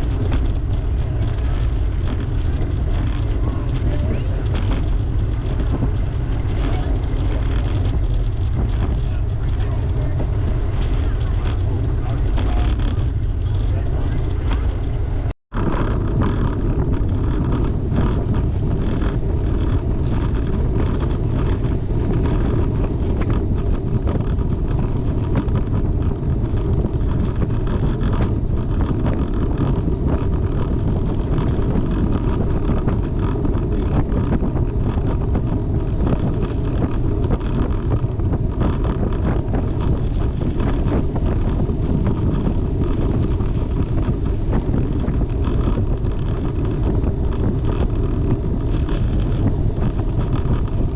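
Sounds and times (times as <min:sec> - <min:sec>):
wind rushing over microphone: 0:00.0 - 0:50.9.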